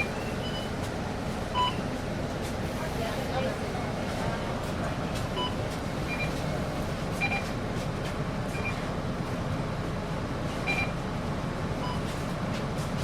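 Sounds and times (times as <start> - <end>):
bus air conditioning hum: 0.0 - 13.0
engine rumbling: 0.0 - 13.0.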